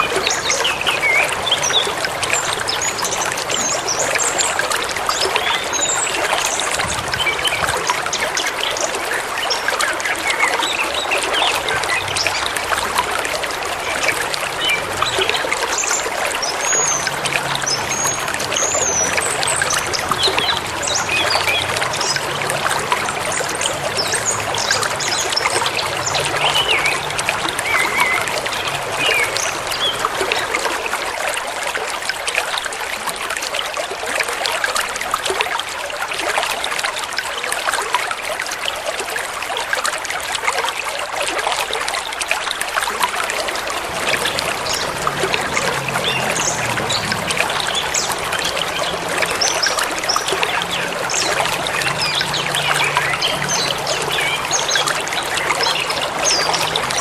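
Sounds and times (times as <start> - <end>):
stream splashing over stones: 0.0 - 57.0.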